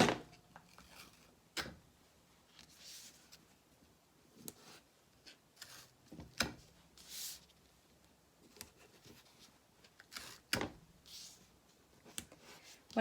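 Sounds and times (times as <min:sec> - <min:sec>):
vinyl rustling: 0:02.3 - 0:13.0.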